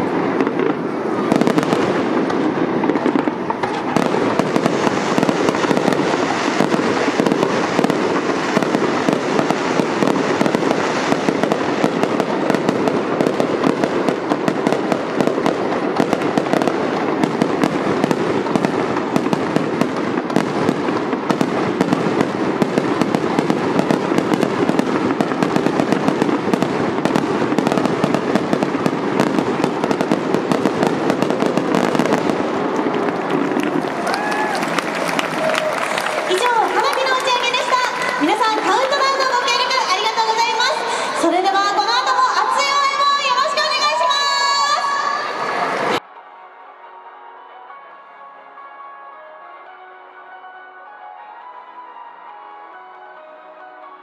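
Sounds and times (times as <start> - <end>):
fireworks bangs and crackling: 0.0 - 46.0.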